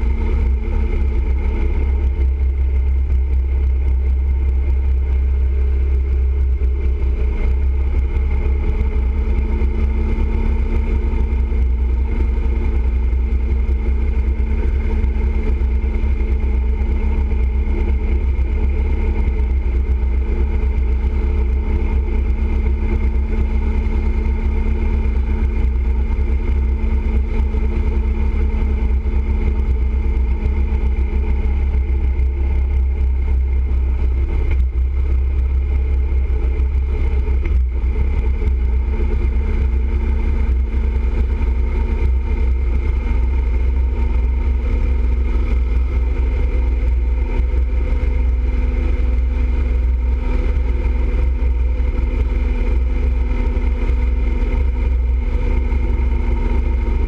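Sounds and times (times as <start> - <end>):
motorcycle engine hum: 0.0 - 57.0.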